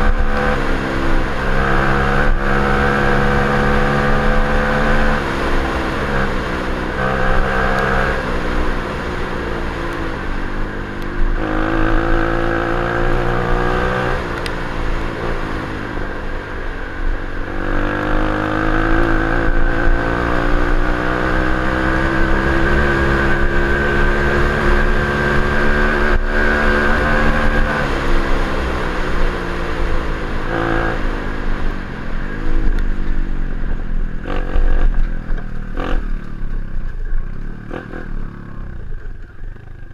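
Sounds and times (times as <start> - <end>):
pit bike engine revving: 0.0 - 15.9, 17.4 - 31.5, 34.2 - 36.2.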